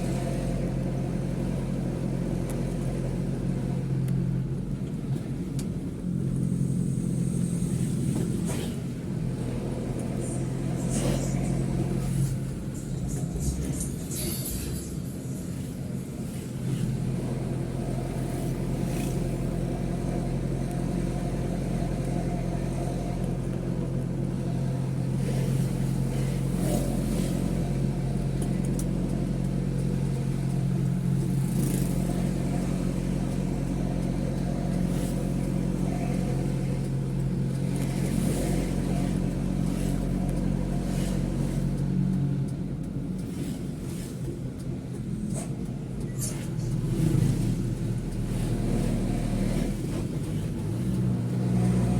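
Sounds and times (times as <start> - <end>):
road noise: 0.0 - 51.9
truck diesel engine running: 0.0 - 51.9.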